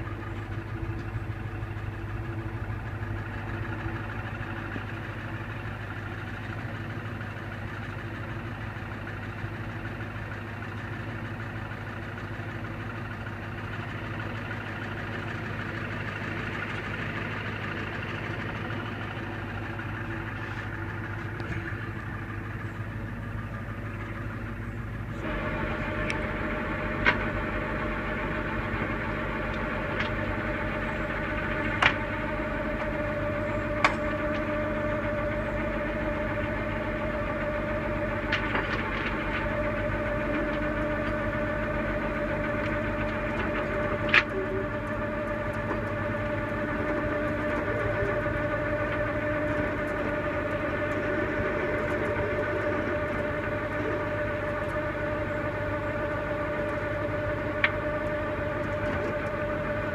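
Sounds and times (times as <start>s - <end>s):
tow truck engine running: 0.0s - 59.9s.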